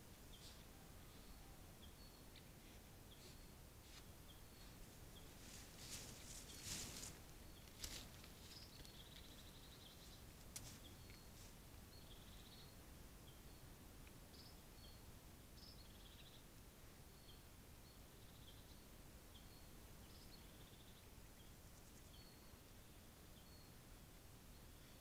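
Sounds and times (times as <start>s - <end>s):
faint high-pitched chirps and trills: 0.0s - 25.0s.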